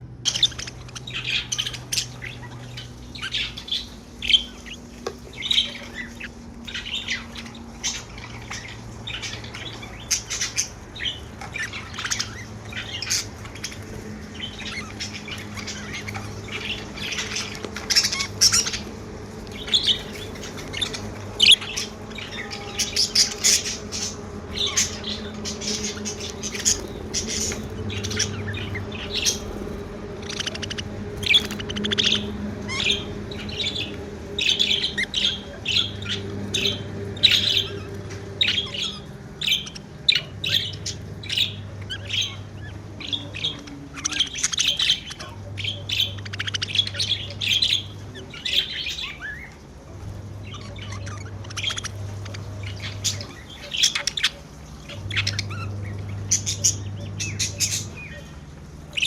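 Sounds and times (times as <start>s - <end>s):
budgerigars chirping and squawking: 0.0s - 59.0s
faint low hum: 0.0s - 59.0s.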